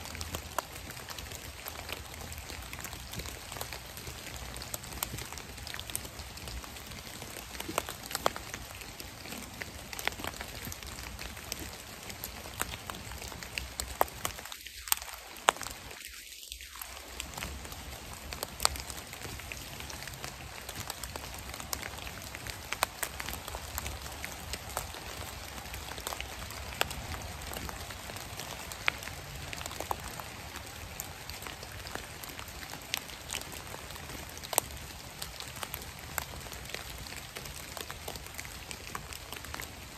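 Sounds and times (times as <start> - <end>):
light rain on leaf litter: 0.0 - 39.9.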